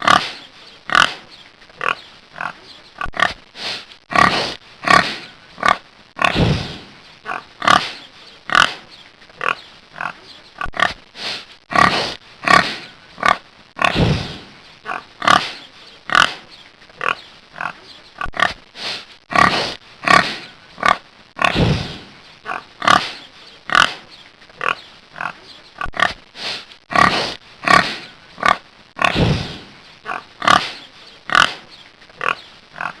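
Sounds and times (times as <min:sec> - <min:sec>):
pig grunting: 0:00.0 - 0:03.4, 0:04.1 - 0:11.0, 0:11.7 - 0:18.6, 0:19.3 - 0:26.2, 0:26.9 - 0:33.0.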